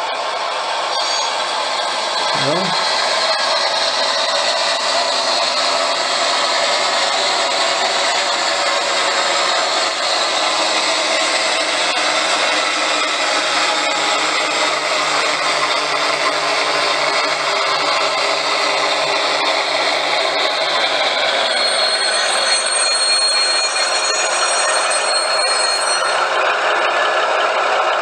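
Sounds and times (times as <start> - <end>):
diesel engine sound from small speaker: 0.1 - 28.0.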